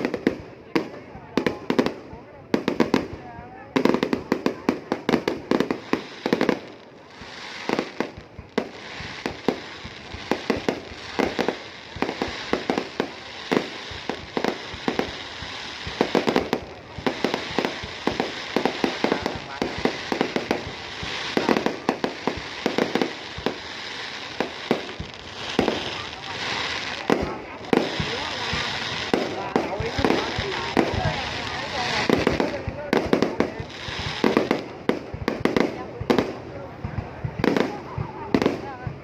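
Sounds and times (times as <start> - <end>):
fireworks bangs: 0.0 - 39.0.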